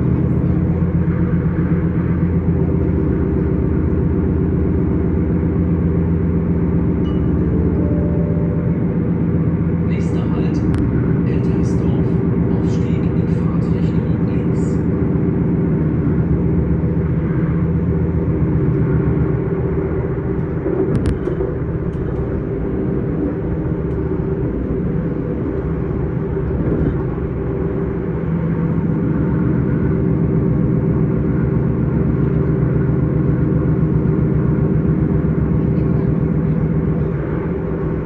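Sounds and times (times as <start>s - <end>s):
traction equipment hum: 0.0s - 38.0s
train wheels rumbling on rail: 0.0s - 38.0s.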